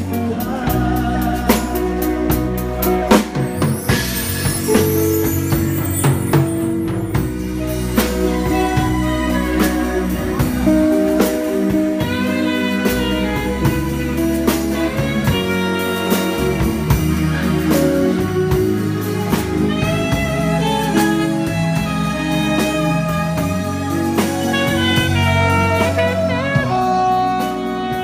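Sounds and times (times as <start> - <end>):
alto saxophone melody: 0.0 - 28.0
keyboard: 0.0 - 28.0.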